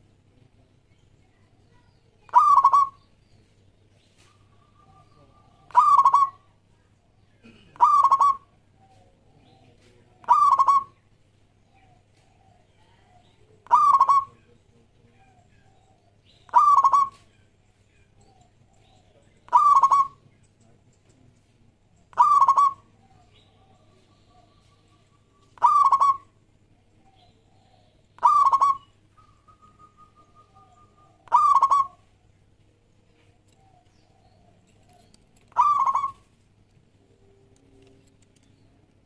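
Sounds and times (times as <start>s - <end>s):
dove cooing trills: 2.2s - 3.2s, 4.2s - 20.8s, 21.9s - 38.2s.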